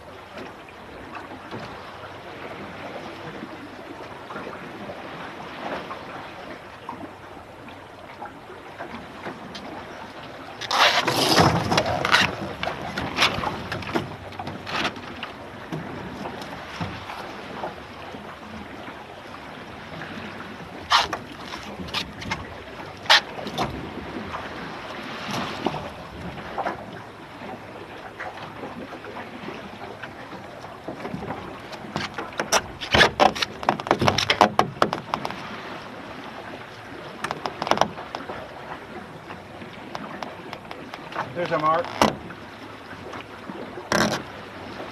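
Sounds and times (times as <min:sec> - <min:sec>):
water slapping on hull: 0:00.0 - 0:44.9
water splashing against hull: 0:00.0 - 0:44.9
wind: 0:00.0 - 0:44.9.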